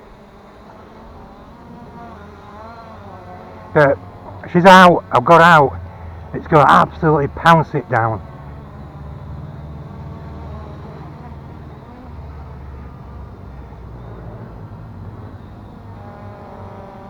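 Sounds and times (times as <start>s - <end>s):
faint steady buzz: 0.0s - 17.0s.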